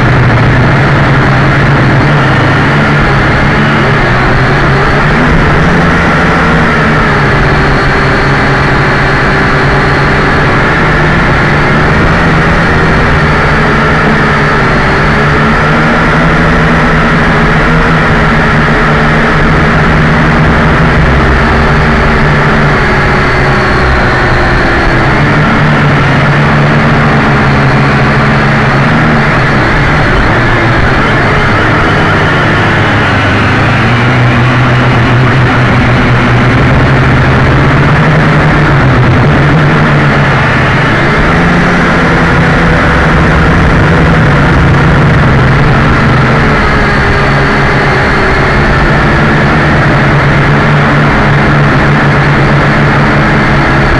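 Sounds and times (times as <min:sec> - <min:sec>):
quadcopter motors buzzing whine: 0:00.0 - 0:53.9.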